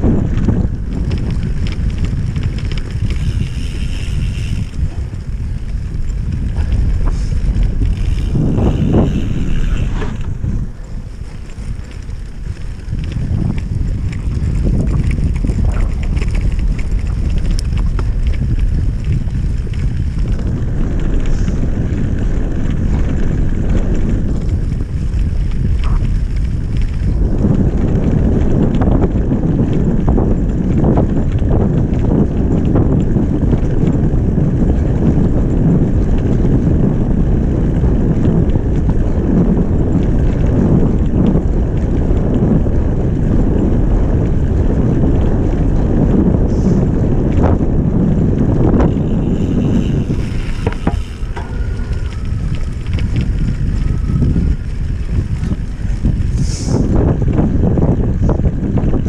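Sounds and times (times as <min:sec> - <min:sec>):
bike rattling over bumps: 0:00.0 - 0:59.0
bike tyre rumble on grass: 0:00.0 - 0:59.0
wind buffeting microphone: 0:00.0 - 0:59.0.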